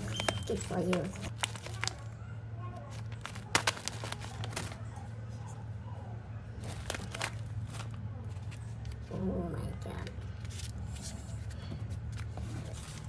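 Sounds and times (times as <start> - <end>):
light crinkling: 0.0 - 13.0.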